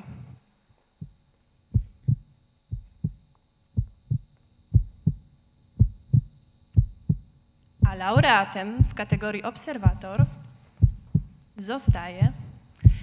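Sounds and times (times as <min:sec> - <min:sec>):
heartbeat thuds: 0:01.0 - 0:13.0.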